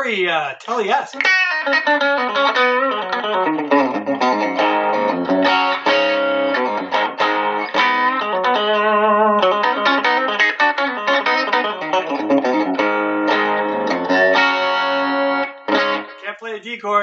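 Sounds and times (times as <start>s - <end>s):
electric guitar through amp: 1.2s - 16.3s.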